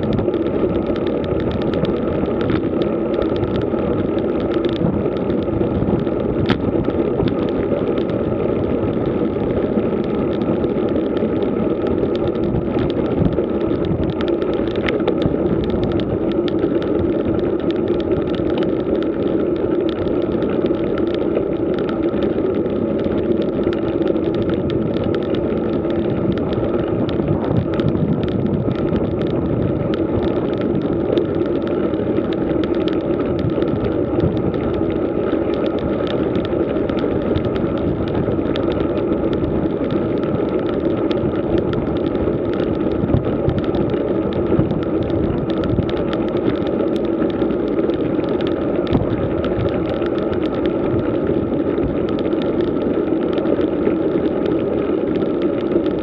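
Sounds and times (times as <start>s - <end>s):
bike rattles and clicks: 0.0s - 56.0s
wind and tyre noise: 0.0s - 56.0s.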